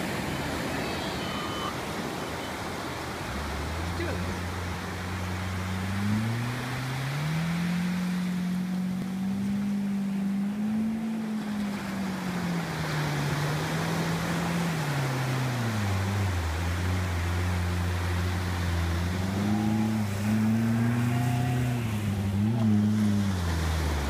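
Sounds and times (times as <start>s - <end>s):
water and waves washing: 0.0s - 24.0s
vehicle engine running: 3.2s - 24.0s.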